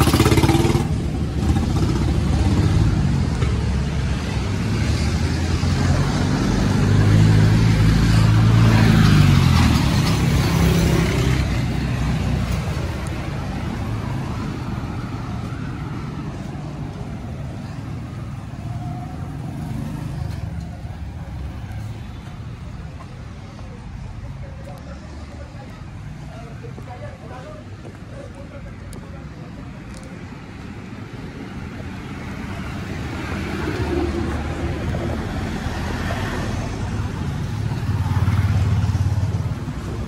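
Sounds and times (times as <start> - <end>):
street traffic: 0.0 - 40.0.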